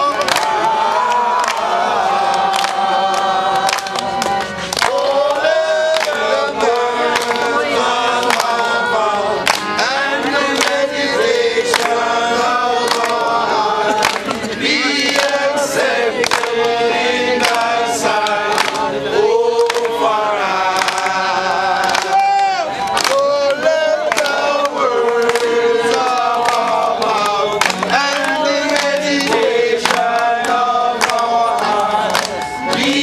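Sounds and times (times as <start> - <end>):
hand claps: 0.0 - 13.3, 13.9 - 18.9, 19.5 - 33.0
group singing folk song: 0.0 - 33.0.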